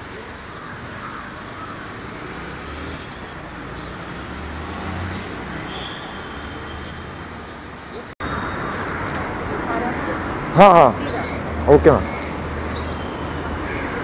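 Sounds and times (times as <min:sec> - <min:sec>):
traffic hum: 0:00.0 - 0:14.0.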